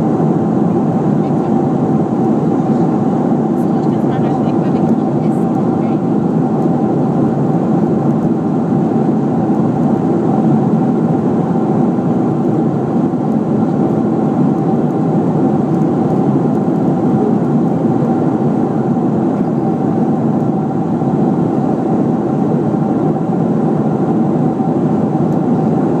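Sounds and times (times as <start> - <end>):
jet engines droning: 0.0 - 26.0.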